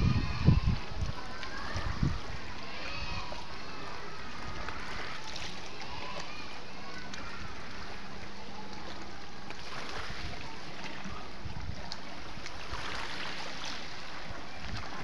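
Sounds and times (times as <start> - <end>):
sea waves lapping on rocks: 0.0 - 15.0.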